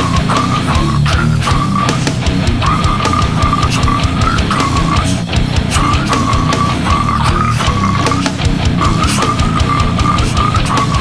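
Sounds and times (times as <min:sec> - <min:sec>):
distorted guitars: 0:00.0 - 0:11.0
fast dense drums: 0:00.0 - 0:11.0.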